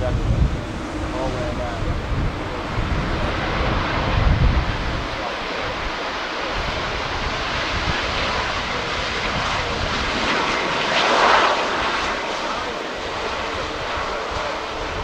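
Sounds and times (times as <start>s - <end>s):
jet engines rushing: 0.0s - 15.0s
wind buffeting microphone: 0.0s - 15.0s.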